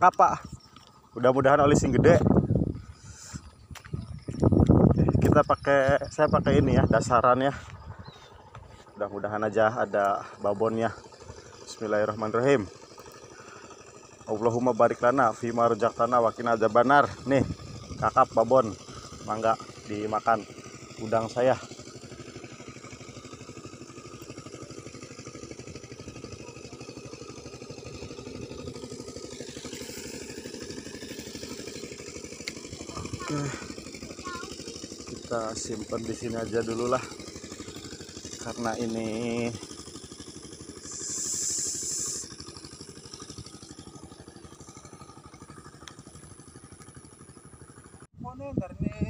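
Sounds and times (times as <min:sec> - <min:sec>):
small engine running: 0:00.0 - 0:49.0.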